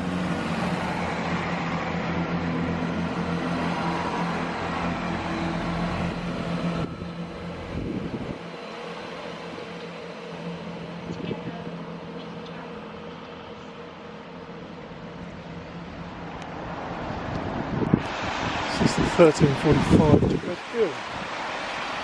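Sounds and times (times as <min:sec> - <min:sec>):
train engine hum: 0:00.0 - 0:22.0.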